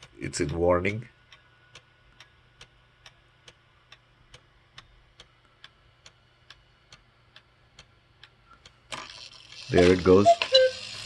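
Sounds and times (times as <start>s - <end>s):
clock ticking faintly: 0.0s - 11.0s.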